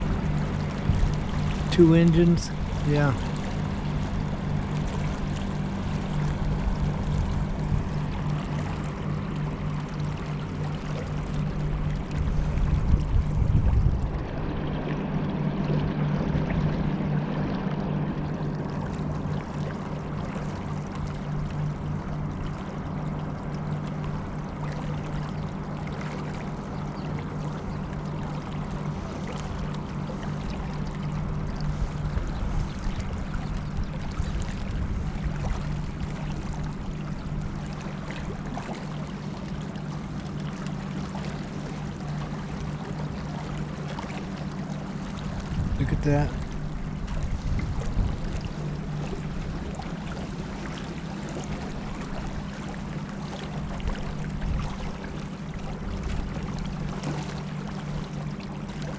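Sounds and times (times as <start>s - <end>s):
motorboat engines humming: 0.0s - 58.9s
water rushing past hull: 0.0s - 58.9s.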